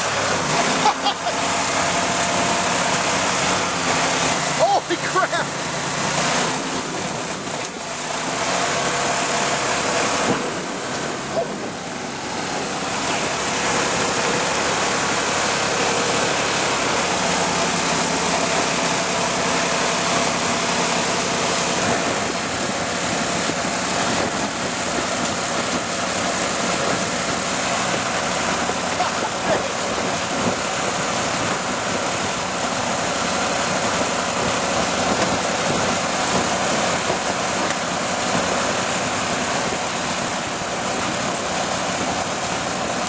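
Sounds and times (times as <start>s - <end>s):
boat motor running: 0.0s - 43.0s.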